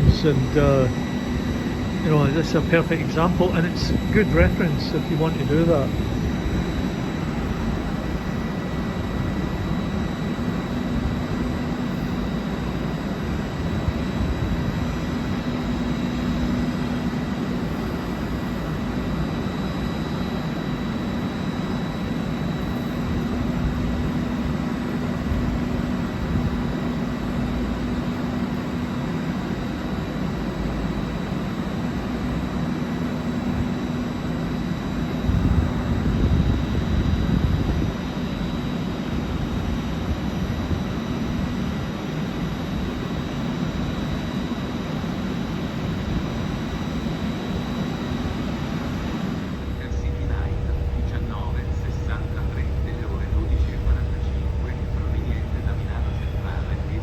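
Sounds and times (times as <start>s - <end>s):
high steady whine: 0.0s - 57.0s
train low hum: 0.0s - 57.0s.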